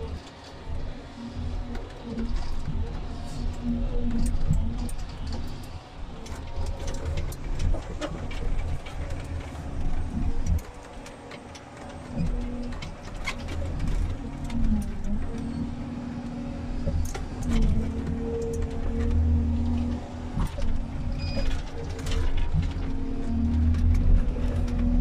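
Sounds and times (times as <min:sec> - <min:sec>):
harvester engine and hydraulics: 0:00.0 - 0:25.0.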